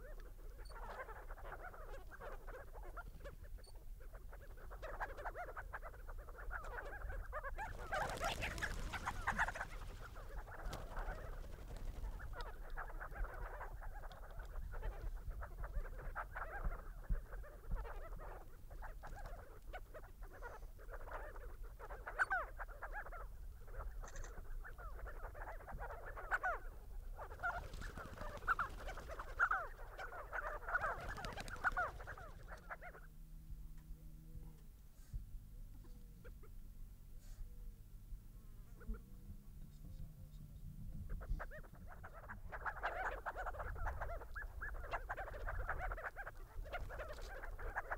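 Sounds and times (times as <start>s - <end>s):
flock of birds chattering: 0.0s - 33.3s, 38.6s - 47.9s.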